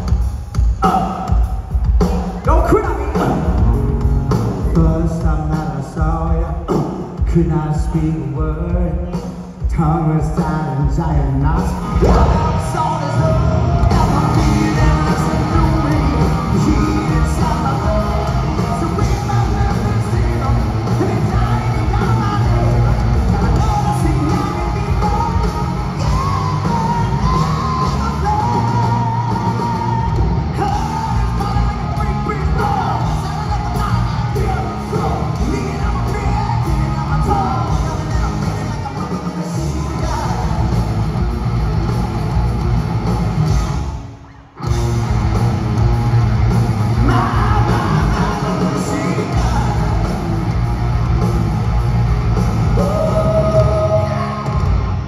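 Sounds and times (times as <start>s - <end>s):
hard rock band playing: 0.0s - 55.0s
singer singing and yelling: 0.0s - 55.0s.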